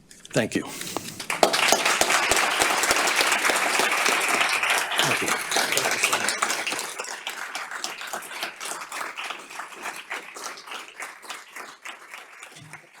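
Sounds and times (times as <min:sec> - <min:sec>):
audience applauding: 0:00.7 - 0:13.0.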